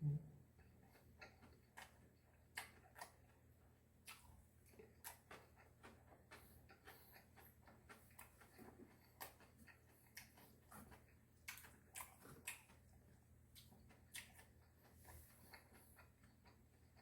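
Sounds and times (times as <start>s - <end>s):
low steady hum: 0.0s - 17.0s
person chewing: 0.5s - 17.0s.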